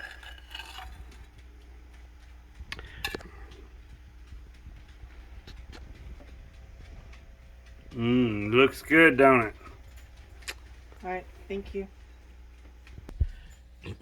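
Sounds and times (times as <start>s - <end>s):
low steady hum: 0.0s - 14.0s
utensil clicking against dishes: 0.0s - 14.0s.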